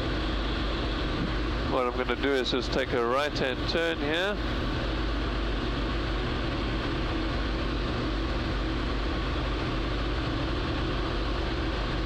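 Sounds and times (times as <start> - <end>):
plane engine and propeller droning: 0.0 - 12.0.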